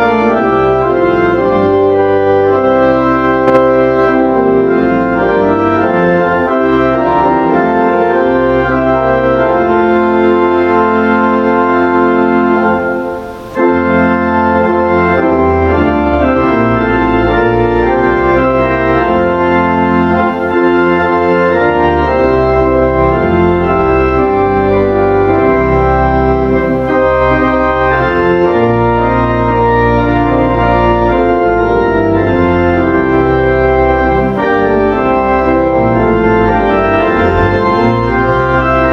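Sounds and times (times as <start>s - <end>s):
organ playing chords: 0.0s - 38.9s.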